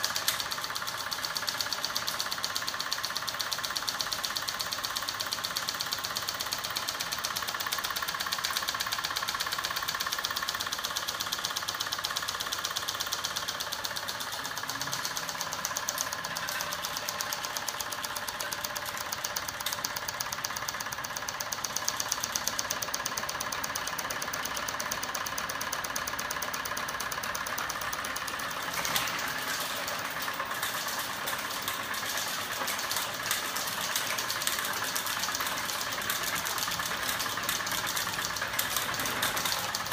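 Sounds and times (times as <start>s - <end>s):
rapid mechanical clatter: 0.0s - 39.9s.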